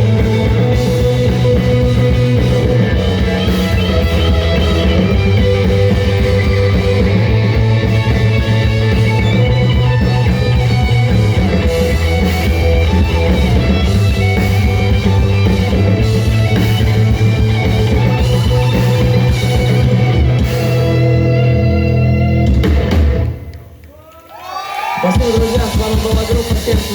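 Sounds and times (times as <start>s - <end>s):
distorted electric guitar: 0.0s - 23.7s
bass guitar: 0.0s - 23.8s
drum kit: 0.0s - 23.8s, 25.0s - 26.9s.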